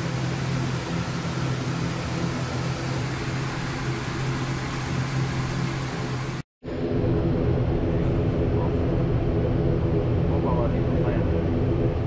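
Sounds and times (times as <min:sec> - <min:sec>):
cockpit machinery hum: 0:00.0 - 0:12.0.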